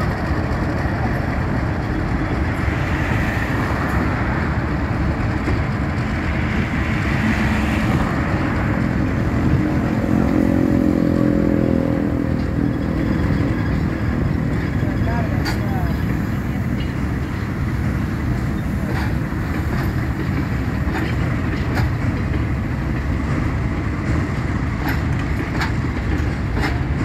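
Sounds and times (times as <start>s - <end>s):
diesel locomotive running under load: 0.0s - 27.0s.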